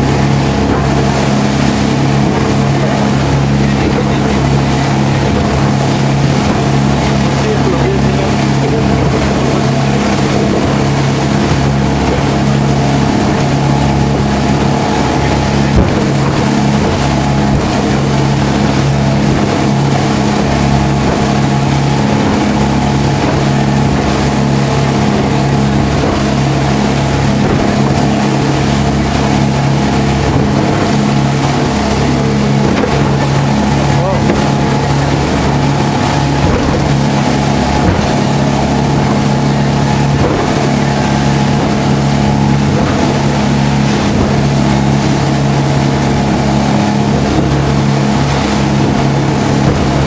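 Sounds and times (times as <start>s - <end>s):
speedboat engines humming: 0.0s - 50.0s
water and wind rushing: 0.0s - 50.0s.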